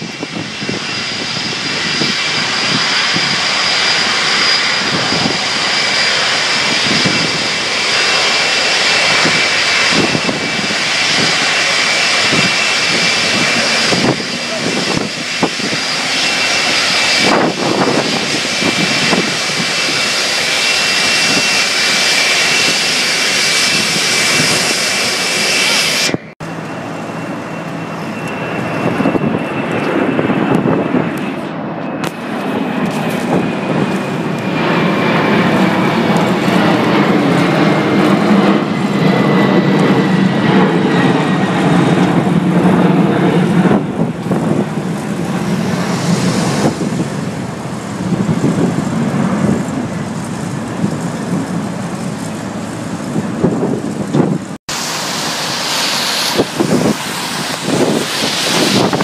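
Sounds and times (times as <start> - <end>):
jet engine rumble: 0.0 - 59.0
jet engine whine: 0.0 - 59.0.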